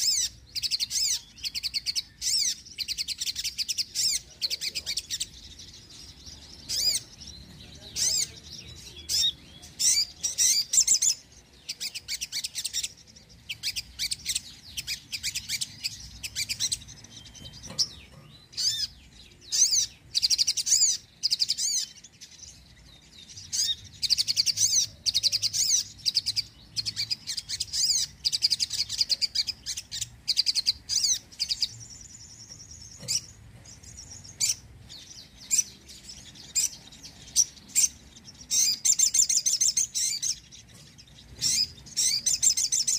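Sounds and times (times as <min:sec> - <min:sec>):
bird twittering and trilling: 0:00.0 - 0:42.9.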